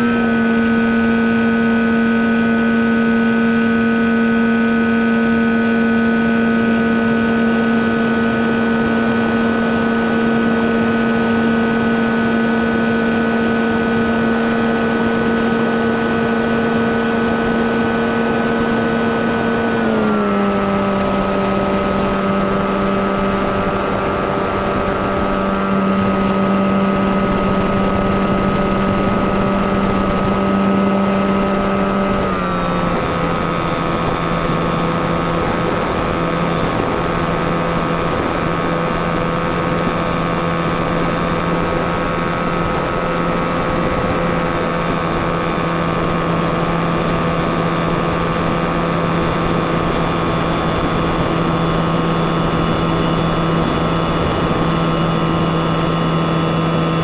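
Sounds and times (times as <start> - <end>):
model plane propeller droning: 0.0 - 57.0.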